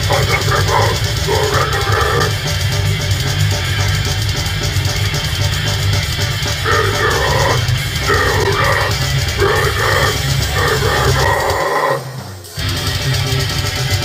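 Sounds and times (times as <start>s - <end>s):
distorted guitars: 0.0s - 14.0s
fast drumming: 0.0s - 14.0s.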